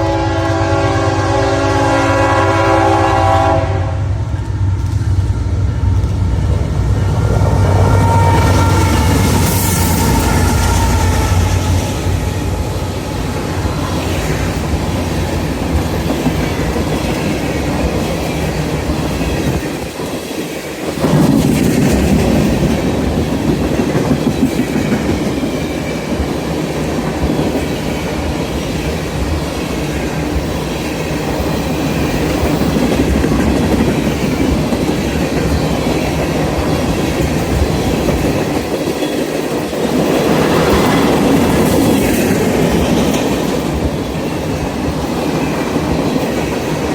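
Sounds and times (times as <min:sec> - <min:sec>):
train wheels clicking over rails: 0:00.0 - 0:46.9.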